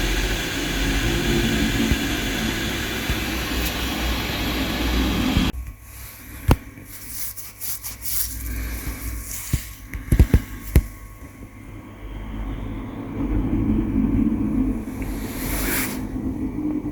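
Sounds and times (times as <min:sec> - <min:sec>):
machine running with low hum: 0:00.0 - 0:16.9.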